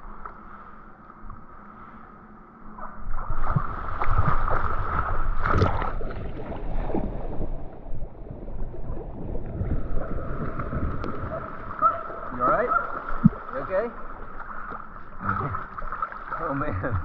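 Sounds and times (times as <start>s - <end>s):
water splashing and churning: 0.0s - 17.0s.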